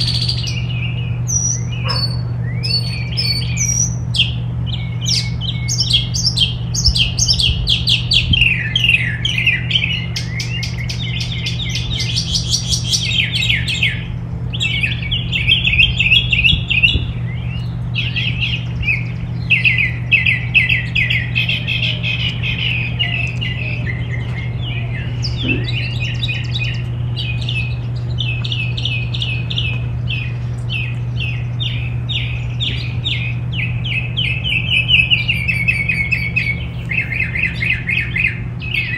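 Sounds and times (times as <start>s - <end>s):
songbirds chirping: 0.0s - 38.9s
steady low hum: 0.0s - 38.9s.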